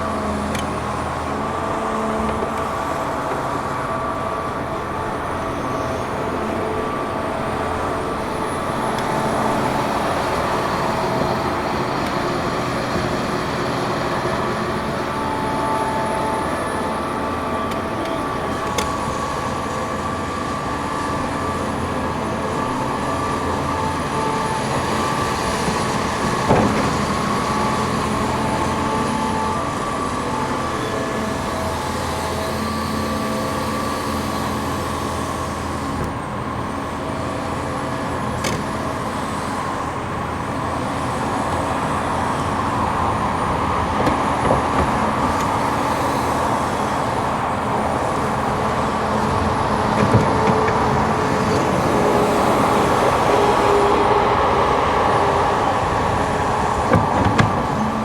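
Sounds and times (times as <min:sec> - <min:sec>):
diesel excavators running: 0:00.0 - 0:58.0.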